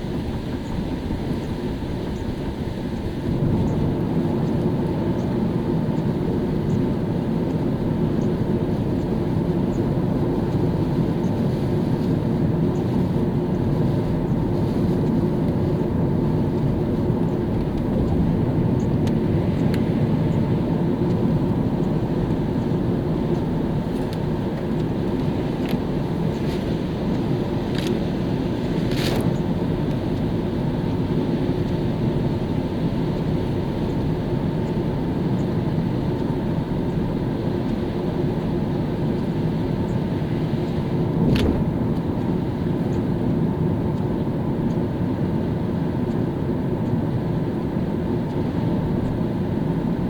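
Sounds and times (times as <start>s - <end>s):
car tyres on wet road: 0.0s - 50.0s.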